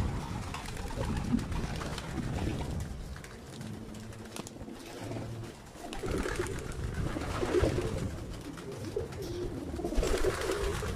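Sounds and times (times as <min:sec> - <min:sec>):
pigeons cooing: 0:00.0 - 0:10.9.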